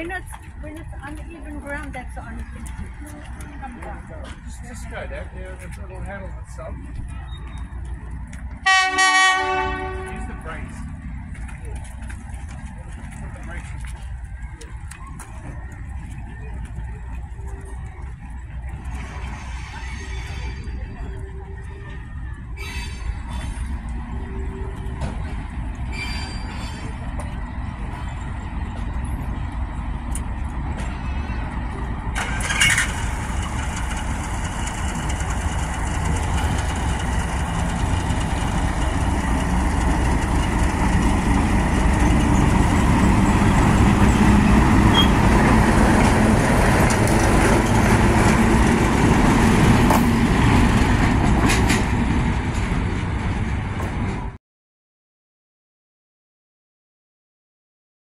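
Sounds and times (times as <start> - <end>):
diesel locomotive engine rumbling: 0.0 - 54.4.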